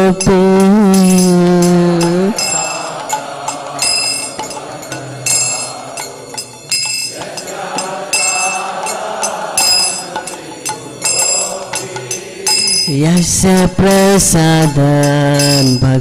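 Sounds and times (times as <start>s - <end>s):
devotional music: 0.0s - 16.0s
hand cymbals clinking: 0.0s - 16.0s.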